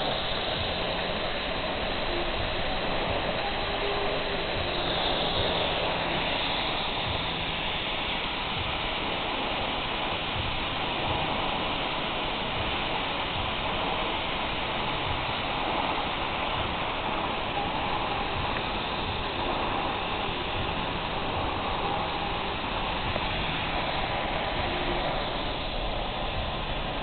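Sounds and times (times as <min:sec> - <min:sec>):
welding arc hissing: 0:00.0 - 0:27.0.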